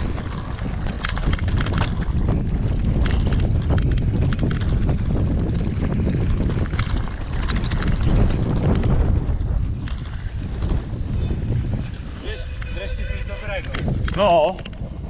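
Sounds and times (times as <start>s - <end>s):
bike clicks and rattles: 0.0s - 12.7s, 13.6s - 15.0s
wind buffeting microphone: 0.0s - 15.0s.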